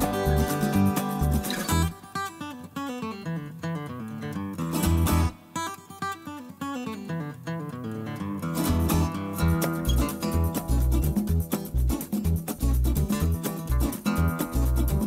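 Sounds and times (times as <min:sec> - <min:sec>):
picked acoustic guitar: 0:00.0 - 0:15.0.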